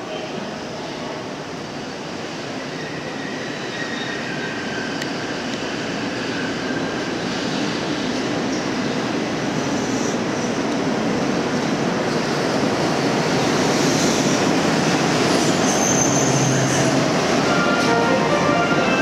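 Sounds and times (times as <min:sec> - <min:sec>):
monorail train running: 0:00.0 - 0:19.0.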